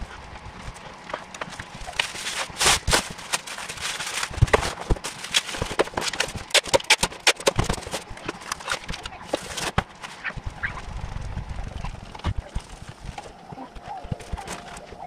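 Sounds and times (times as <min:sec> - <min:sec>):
bubble wrap crinkling and crackling: 0:00.0 - 0:15.0.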